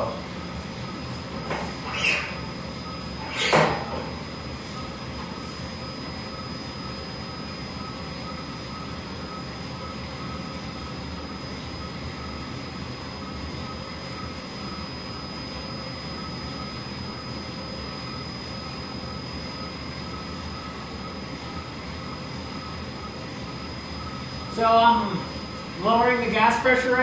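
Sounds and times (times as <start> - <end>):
coffee roaster drum whirring: 0.0 - 27.0
faint high whine: 0.0 - 27.0.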